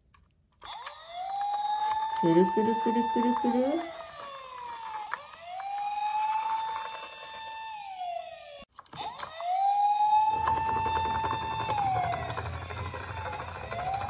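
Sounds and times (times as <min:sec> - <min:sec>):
toy electronic siren wailing: 0:00.6 - 0:14.0
toy wheels rolling on wood: 0:00.7 - 0:08.0, 0:08.9 - 0:14.0.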